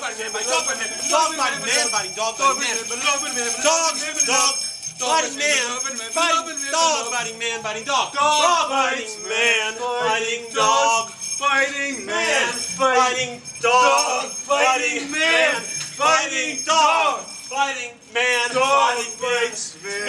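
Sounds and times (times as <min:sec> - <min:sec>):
men yelping and howling: 0:00.0 - 0:17.8
small bells jingling: 0:00.0 - 0:20.0.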